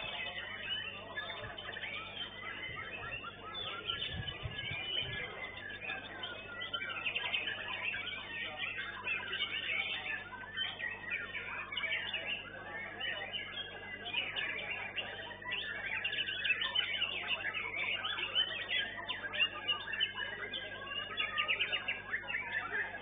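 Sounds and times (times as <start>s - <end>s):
birds whistling and chirping: 0.0s - 23.0s.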